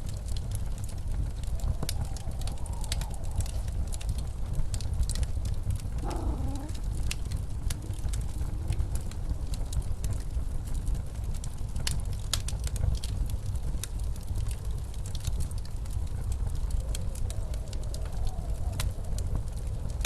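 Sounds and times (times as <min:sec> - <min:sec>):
fireplace crackling and popping: 0:00.0 - 0:20.0
low blizzard wind rumble: 0:00.0 - 0:20.0.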